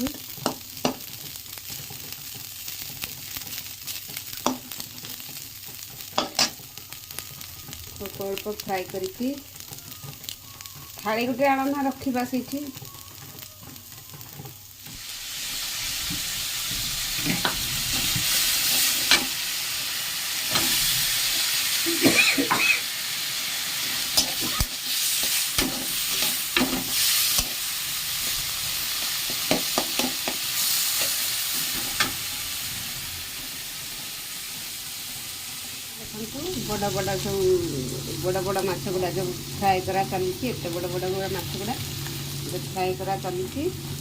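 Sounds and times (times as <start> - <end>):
fish sizzling in hot oil: 0.0 - 44.0.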